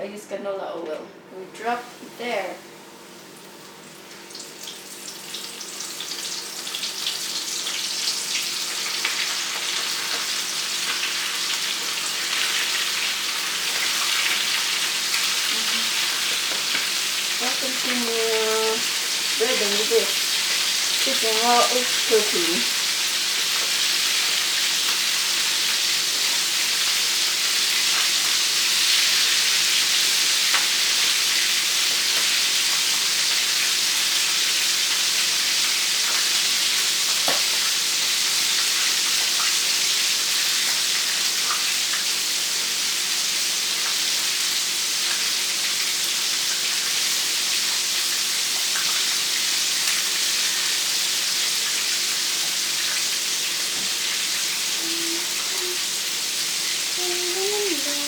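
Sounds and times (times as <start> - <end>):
chicken deep-frying in oil: 1.6 - 58.0.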